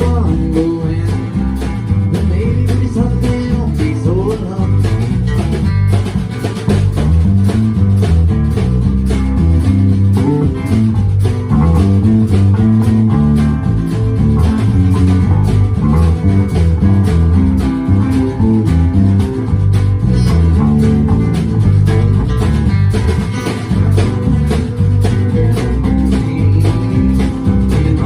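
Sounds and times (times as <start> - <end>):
electric guitar notes: 0.0 - 28.0
steady drumbeat: 0.0 - 28.0
walking bass line: 0.0 - 28.0.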